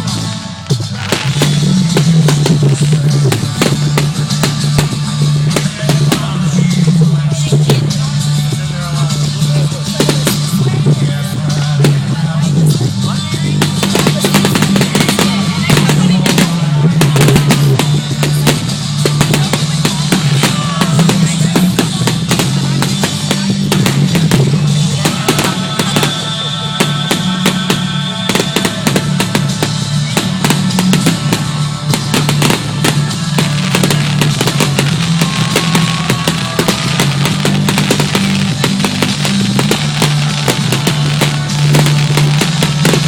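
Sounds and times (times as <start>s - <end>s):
fireworks bangs and crackles: 0.0s - 43.0s
music playing: 0.0s - 43.0s.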